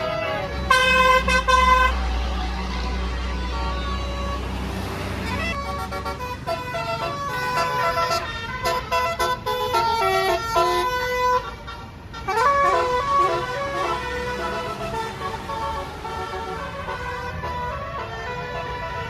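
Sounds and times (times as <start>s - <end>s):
bus air horn melody: 0.0s - 19.0s.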